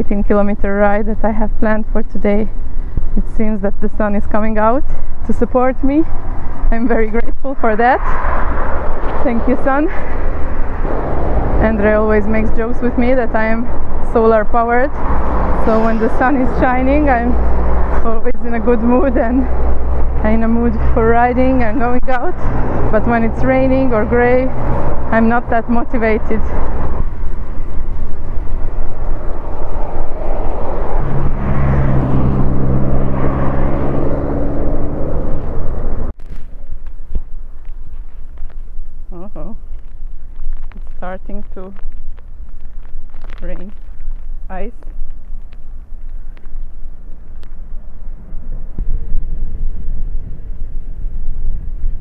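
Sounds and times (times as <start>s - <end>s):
engine drone: 0.0s - 52.0s
wind buffeting microphone: 0.0s - 52.0s.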